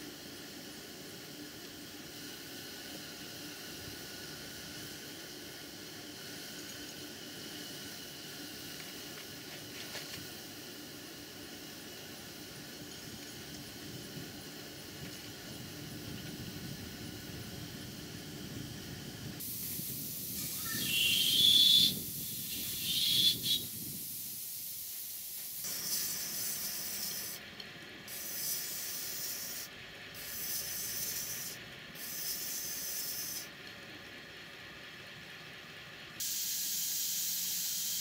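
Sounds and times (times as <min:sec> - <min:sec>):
steam hissing from model locomotive: 0:00.0 - 0:33.6, 0:36.2 - 0:38.0.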